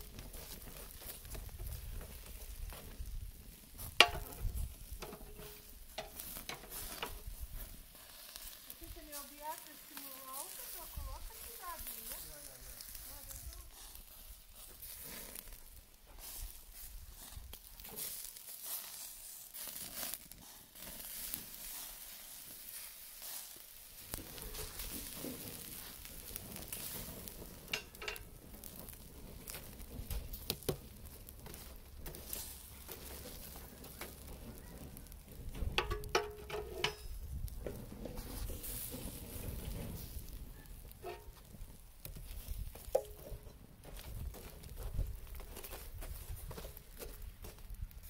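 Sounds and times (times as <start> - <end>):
fire crackling and popping: 0.0 - 48.0
meat sizzling over wood fire: 0.0 - 48.0.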